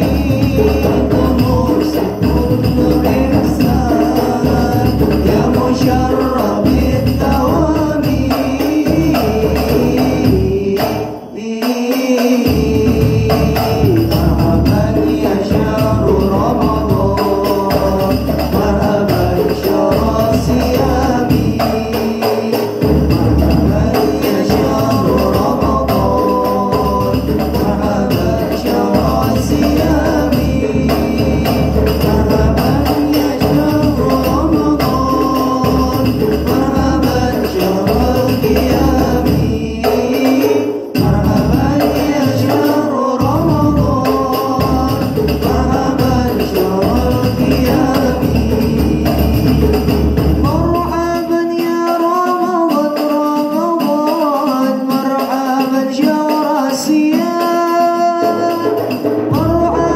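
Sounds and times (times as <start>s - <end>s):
frame drums beating: 0.0s - 59.9s
men singing into microphones: 0.0s - 59.9s.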